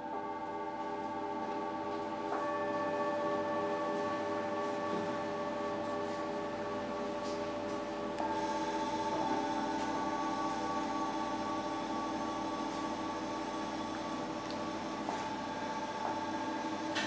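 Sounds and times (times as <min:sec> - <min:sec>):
held drone notes: 0:00.0 - 0:17.0.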